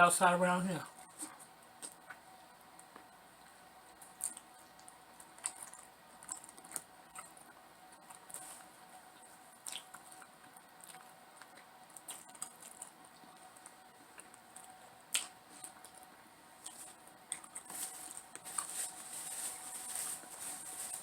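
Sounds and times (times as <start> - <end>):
soft chewing: 0.9 - 21.0.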